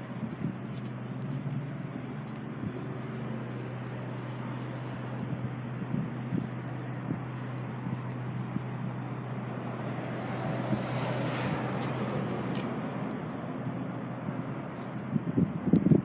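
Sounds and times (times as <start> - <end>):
mechanical engine hum: 0.0 - 16.0.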